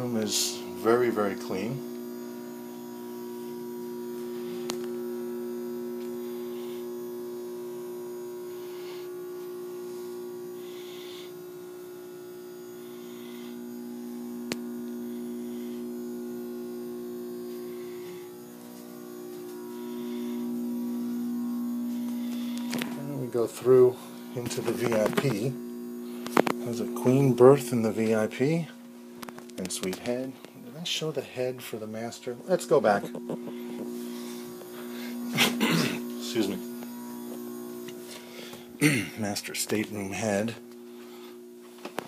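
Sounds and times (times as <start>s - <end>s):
electrical machinery hum: 0.0s - 42.0s.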